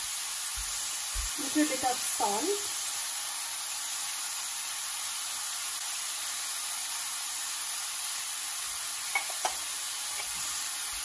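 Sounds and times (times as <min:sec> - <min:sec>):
carrots sizzling in oil: 0:00.0 - 0:11.0.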